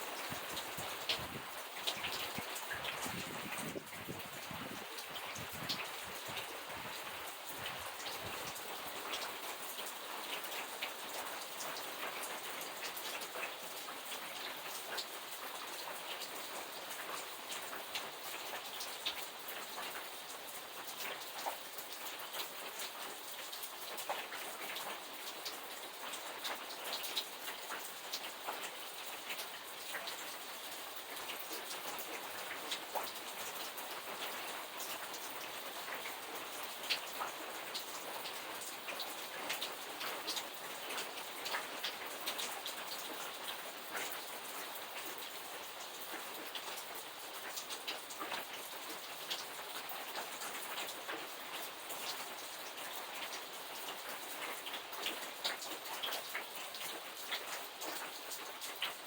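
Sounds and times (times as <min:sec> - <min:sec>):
raindrops ticking on surface: 0:00.0 - 0:59.0
steady rain: 0:00.0 - 0:59.0.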